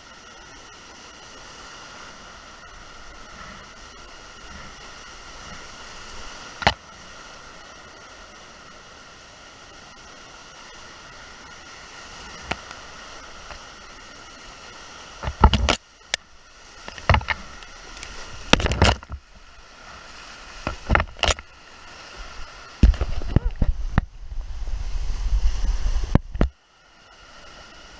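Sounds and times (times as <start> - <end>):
whitewater creek rushing: 0.0 - 27.9.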